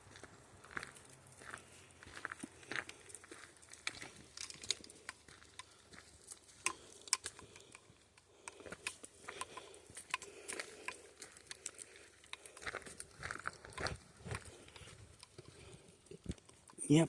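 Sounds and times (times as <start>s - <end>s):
footsteps crunching on dry trail: 0.0s - 16.5s.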